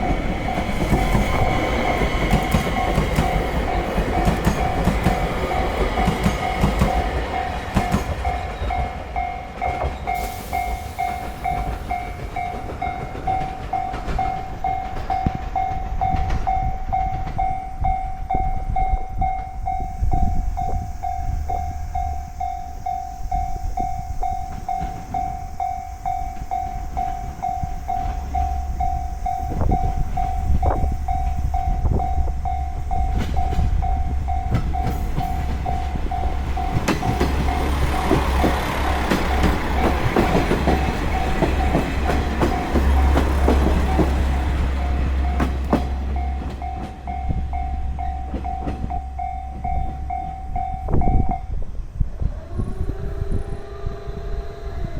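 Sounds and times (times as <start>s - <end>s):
train wheels clattering: 0.0s - 51.1s
level-crossing warning bell: 0.0s - 51.7s.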